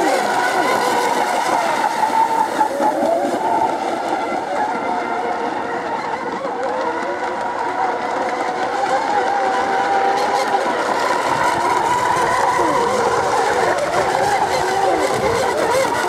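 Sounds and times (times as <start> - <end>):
racing model boats buzzing whine: 0.0 - 16.0.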